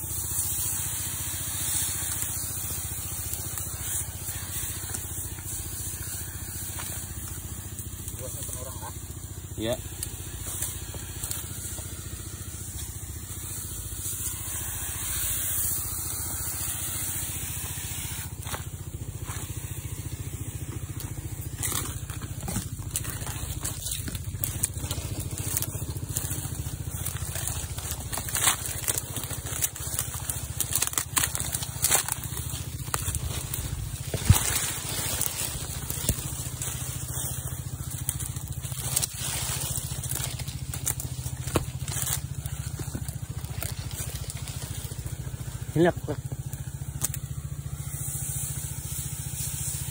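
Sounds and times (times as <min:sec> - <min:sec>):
footsteps crunching dry fronds: 0:00.0 - 0:49.9
hissing spray from nozzle: 0:00.0 - 0:49.9
small petrol engine drone: 0:00.0 - 0:49.9.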